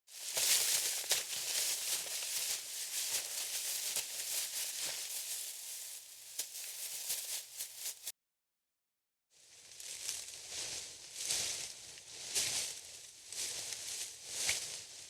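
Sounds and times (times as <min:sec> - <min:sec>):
footsteps through dry leaves: 0:00.1 - 0:08.1, 0:09.4 - 0:15.0.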